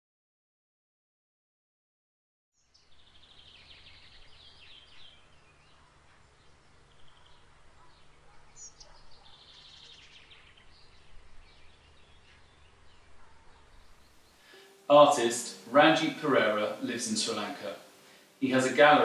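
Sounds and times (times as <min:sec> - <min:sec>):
songbirds chirping trills: 0:02.6 - 0:19.0.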